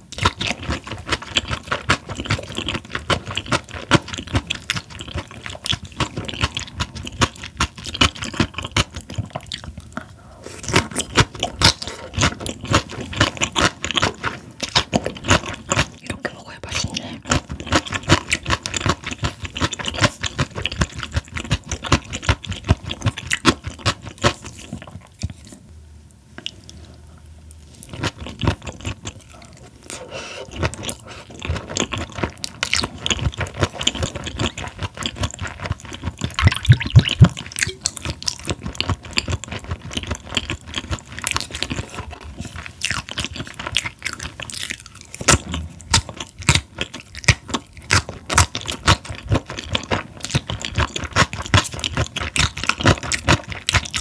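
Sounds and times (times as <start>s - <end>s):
wet crunchy chewing: 0.1s - 16.1s, 16.7s - 25.7s, 27.7s - 54.0s.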